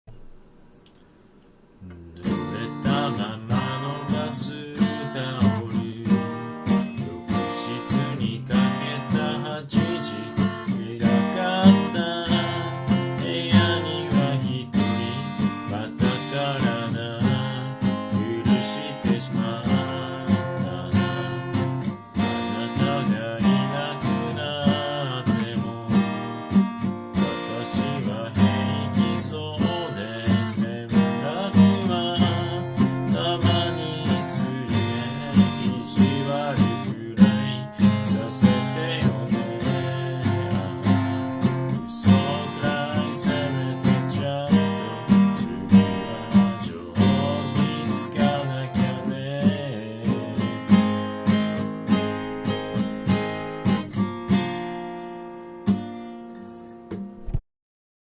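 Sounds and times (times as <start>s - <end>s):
acoustic guitar strumming: 1.8s - 57.4s.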